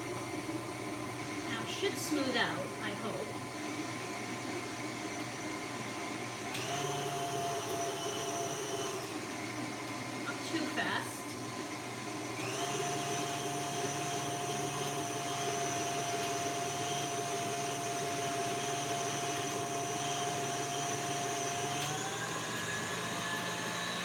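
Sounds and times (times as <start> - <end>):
stand mixer motor whining: 0.0 - 24.0.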